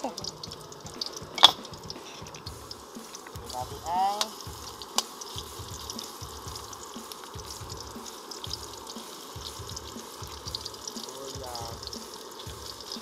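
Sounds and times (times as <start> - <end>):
faint background music: 0.0 - 13.0
garlic and onion sizzling in oil: 0.0 - 13.0.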